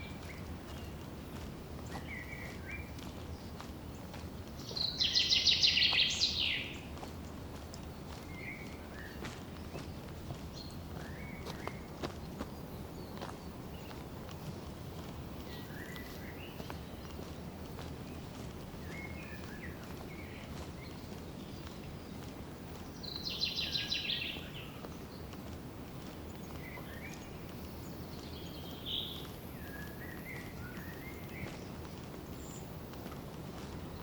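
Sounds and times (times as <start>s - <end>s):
low forest background rush: 0.0s - 34.0s
small birds chirping: 0.0s - 34.0s.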